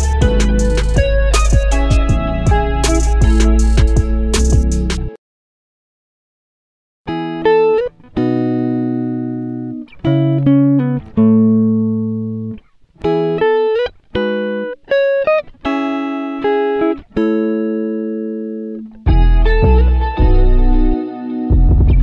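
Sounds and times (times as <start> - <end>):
solo plucked guitar melody: 0.0 - 5.1, 7.1 - 22.0.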